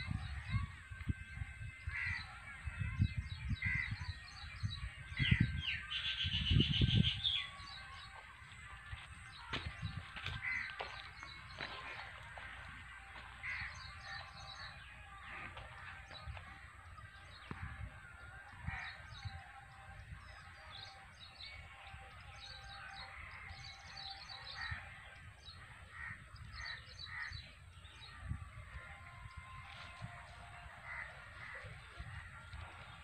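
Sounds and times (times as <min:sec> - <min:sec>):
birds calling and chirping: 0:00.0 - 0:33.0.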